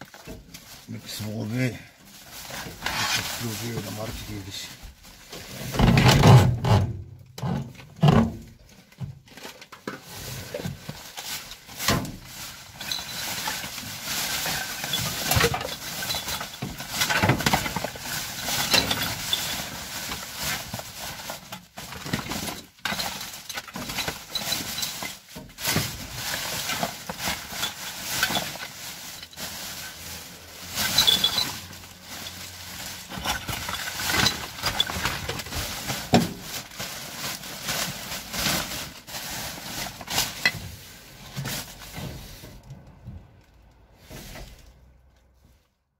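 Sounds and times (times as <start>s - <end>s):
plastic bags rustling: 0.0s - 6.7s, 8.2s - 42.8s.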